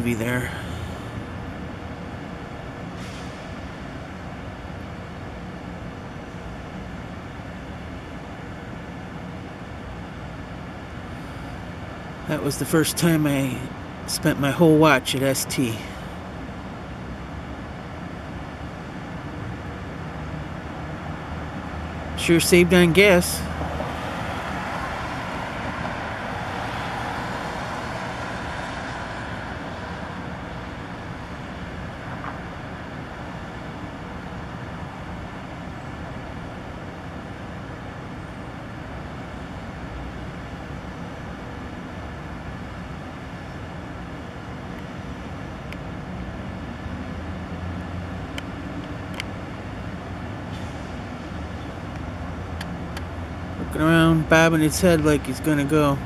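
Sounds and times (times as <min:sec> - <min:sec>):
road traffic: 0:00.0 - 0:56.0.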